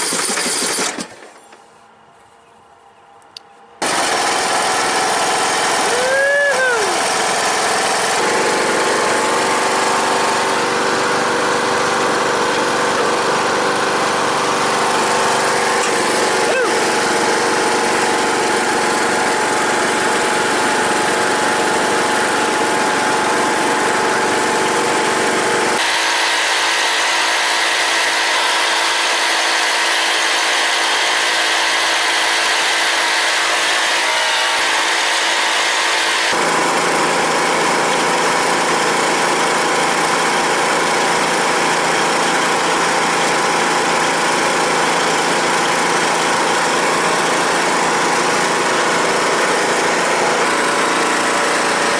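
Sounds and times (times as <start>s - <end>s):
riding mower engine running: 0.0s - 1.6s, 3.8s - 51.9s.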